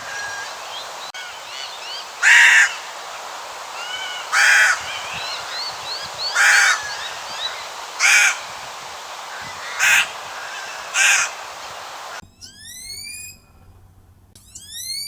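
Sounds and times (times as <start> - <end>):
cuckoo screeching caws: 0.0 - 13.6
faint small birds chirping: 0.0 - 15.0.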